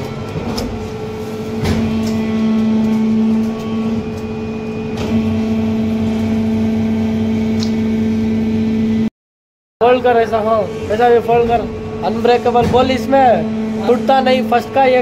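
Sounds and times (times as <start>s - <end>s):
machine humming: 0.0s - 9.1s, 9.8s - 15.0s.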